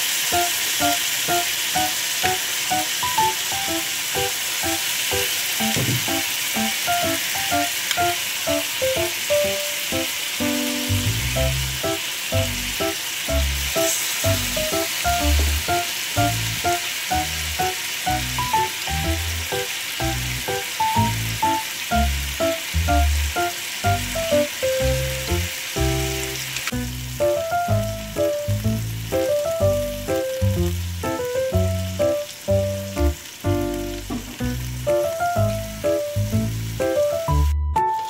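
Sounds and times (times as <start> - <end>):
chicken sizzling in a pan: 0.0 - 38.0.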